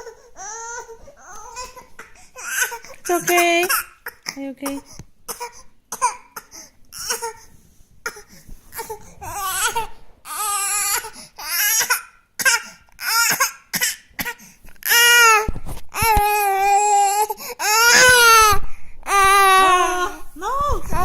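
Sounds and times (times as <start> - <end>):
baby whimpering and crying: 0.0 - 6.3, 6.9 - 21.0.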